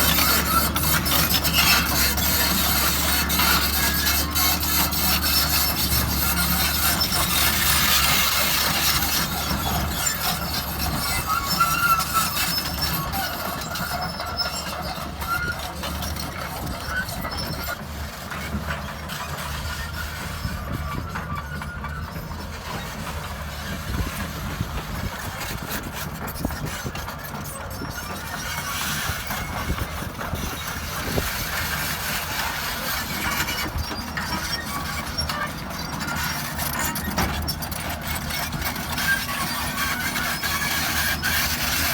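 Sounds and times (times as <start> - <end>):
excavator diesel engine running: 0.0 - 41.9
metallic squeaks and clatter: 0.0 - 41.9.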